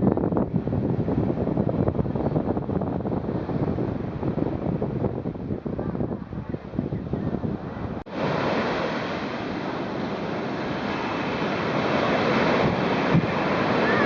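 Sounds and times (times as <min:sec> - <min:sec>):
wind buffeting microphone: 0:00.0 - 0:14.0
ocean surf breaking: 0:00.3 - 0:14.0.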